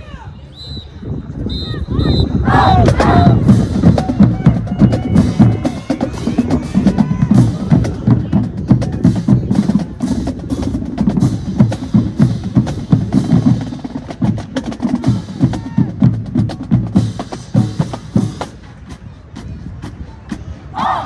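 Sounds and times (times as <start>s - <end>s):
marching drums playing cadence: 2.5s - 21.0s.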